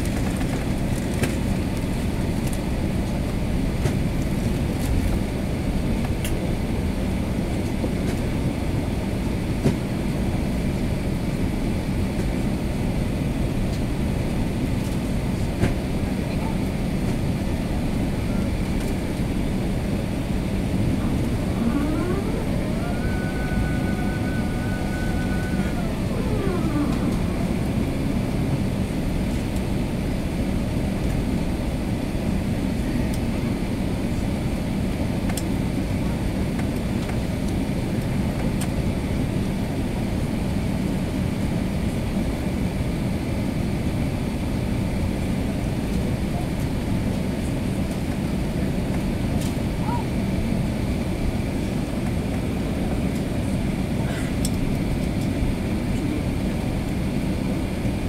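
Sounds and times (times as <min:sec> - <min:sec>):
engine whine: 0:00.0 - 0:58.0
low rumble inside aircraft cabin: 0:00.0 - 0:58.0.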